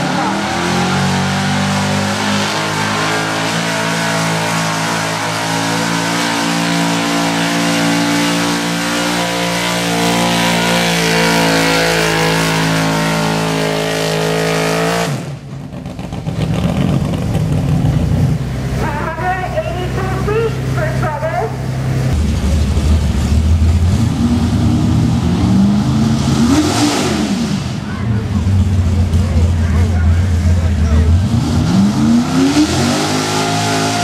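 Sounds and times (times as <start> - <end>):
truck engine at high revs: 0.0 - 34.0.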